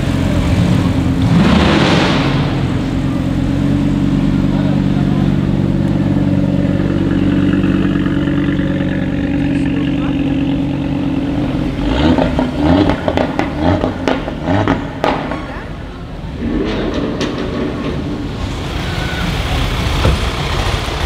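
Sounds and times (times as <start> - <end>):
exhaust cracks: 0.0 - 18.7
car engine rumbling: 0.0 - 21.0.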